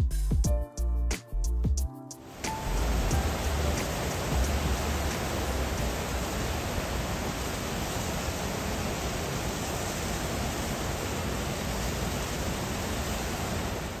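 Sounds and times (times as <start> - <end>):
churning rapids: 2.2 - 14.0
water rushing from dam gates: 2.2 - 14.0.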